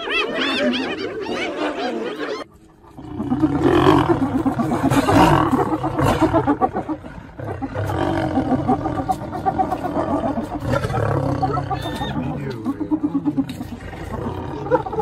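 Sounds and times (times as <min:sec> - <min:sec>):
lions growling: 0:02.5 - 0:15.0.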